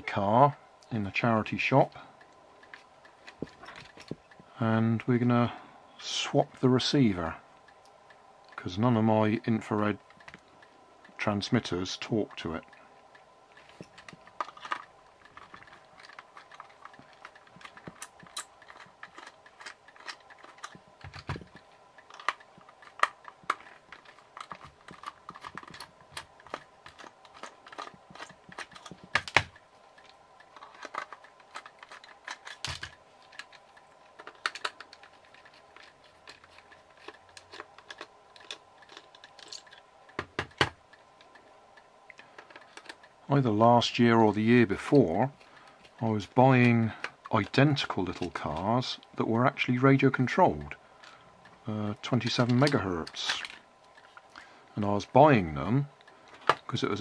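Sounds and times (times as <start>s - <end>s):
plastic toy being handled: 2.2s - 4.5s, 12.2s - 43.2s, 44.7s - 57.0s.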